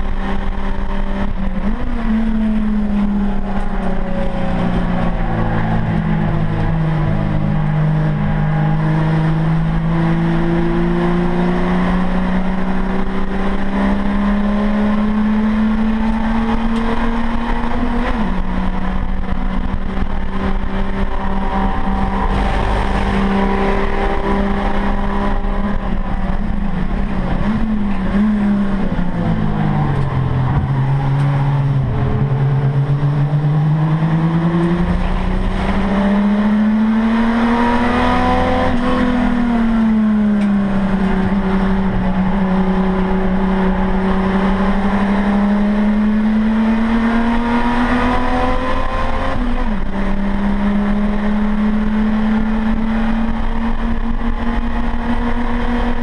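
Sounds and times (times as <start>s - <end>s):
race car engine revving: 0.0s - 56.0s
road and tyre rumble: 0.0s - 56.0s.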